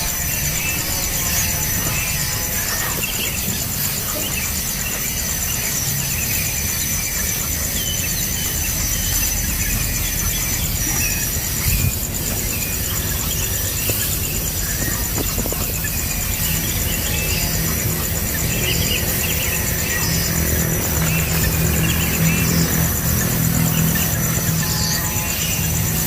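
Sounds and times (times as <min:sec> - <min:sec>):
insect trill: 0:00.0 - 0:26.0
nestlings chirping: 0:00.0 - 0:26.0.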